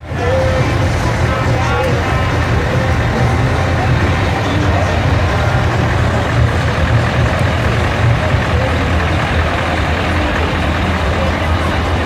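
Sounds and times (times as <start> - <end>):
heavy truck engines rumbling: 0.0 - 12.0.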